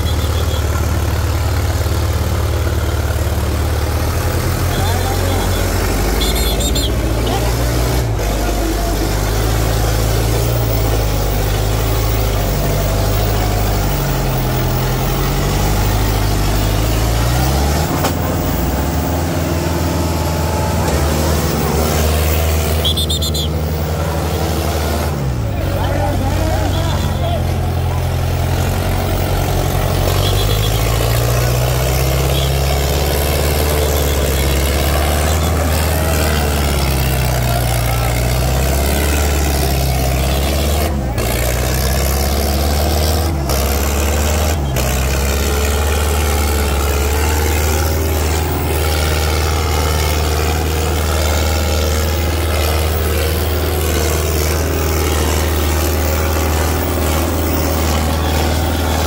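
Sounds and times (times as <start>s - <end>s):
diesel tractor engines droning: 0.0s - 59.0s.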